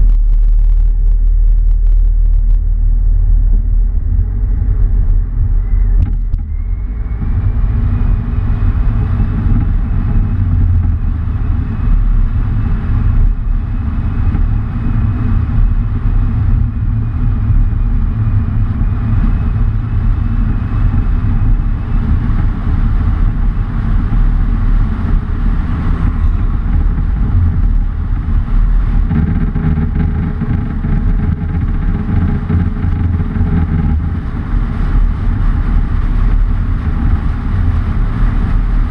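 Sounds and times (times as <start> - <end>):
faint high whine: 0.0 - 38.9
vehicle engine rumbling: 0.0 - 38.9.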